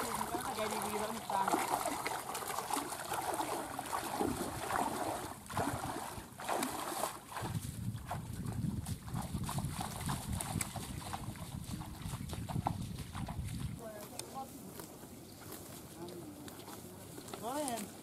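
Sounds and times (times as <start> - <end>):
feet splashing through water: 0.0 - 18.0
footsteps in wet grass: 0.0 - 18.0.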